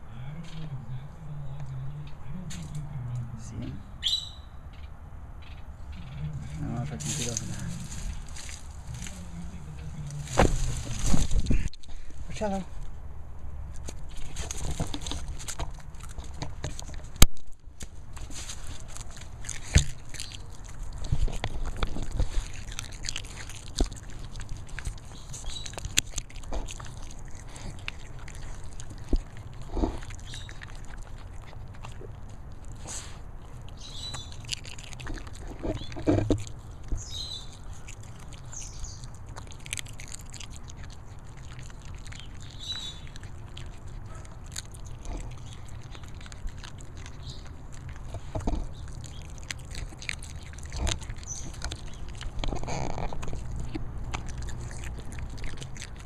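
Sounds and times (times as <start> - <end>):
dog chewing and crunching: 0.0 - 3.8, 5.9 - 56.0.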